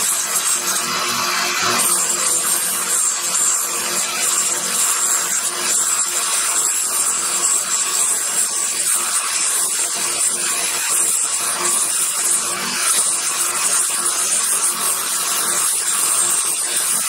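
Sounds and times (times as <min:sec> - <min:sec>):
belt sander grinding metal: 0:00.0 - 0:17.0.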